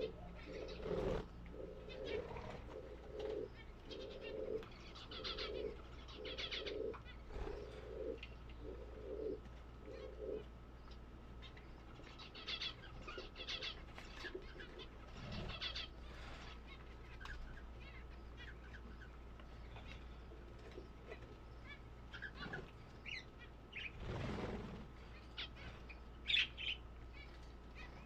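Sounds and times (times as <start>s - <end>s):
pigeons cooing: 0.0s - 10.6s, 11.4s - 26.9s.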